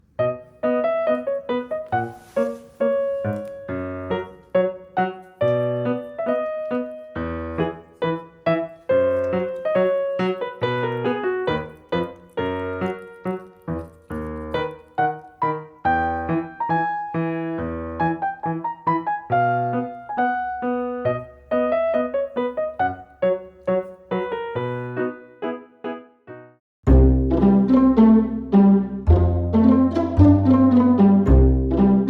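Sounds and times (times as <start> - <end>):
light piano tune: 0.0 - 32.0.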